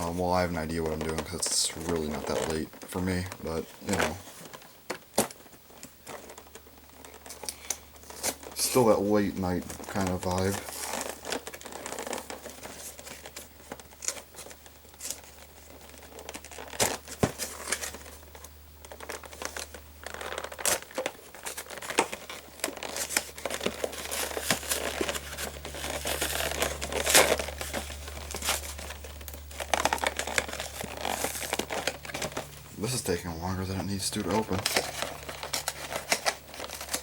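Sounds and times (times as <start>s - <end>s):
packaging crinkling and tearing: 0.0s - 37.0s.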